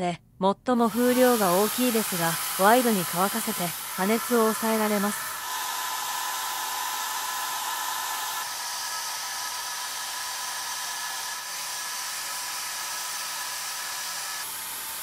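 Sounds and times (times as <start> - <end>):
hair dryer running: 0.9 - 15.0.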